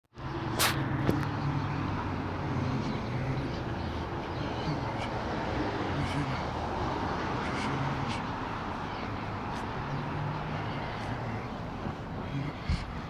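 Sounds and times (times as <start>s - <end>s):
outdoor background noise: 0.1s - 13.0s
low engine hum: 0.2s - 13.0s.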